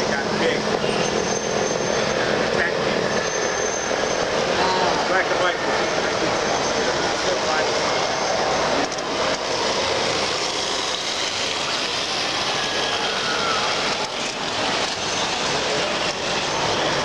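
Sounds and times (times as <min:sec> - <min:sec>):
busy exhibition hall din: 0:00.0 - 0:17.0.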